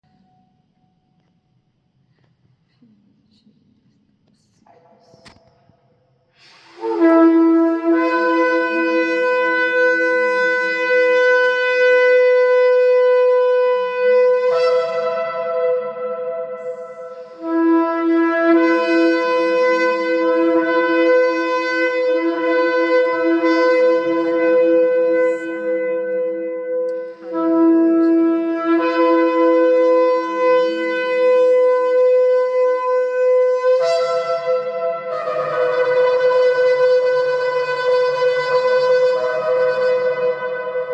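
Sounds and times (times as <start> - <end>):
ram's horn blown in long notes: 6.5 - 40.9
shofar blast: 6.5 - 40.9.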